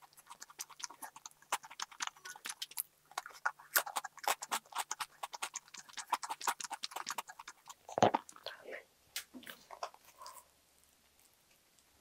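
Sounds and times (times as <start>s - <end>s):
chewing with mouth clicks: 0.0s - 8.5s, 9.4s - 11.5s.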